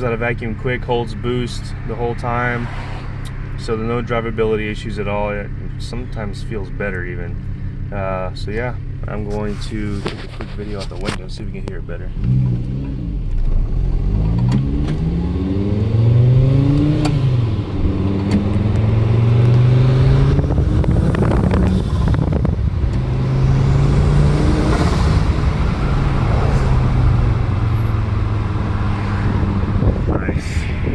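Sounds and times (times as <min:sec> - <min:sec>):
turbocharged car engine accelerating: 0:00.0 - 0:30.9.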